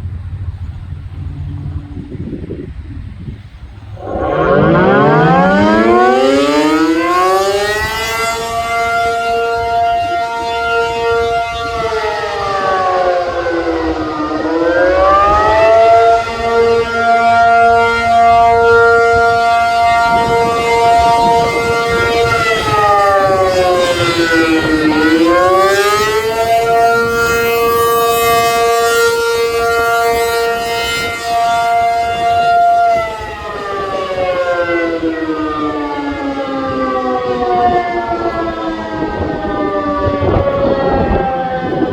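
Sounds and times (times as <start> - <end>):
tornado siren wailing two-tone chord: 0.0 - 41.9.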